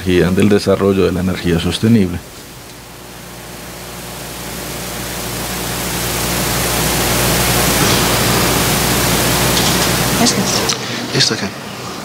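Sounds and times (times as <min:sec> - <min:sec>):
low electrical hum: 0:00.0 - 0:12.0
steady hiss: 0:00.0 - 0:12.0.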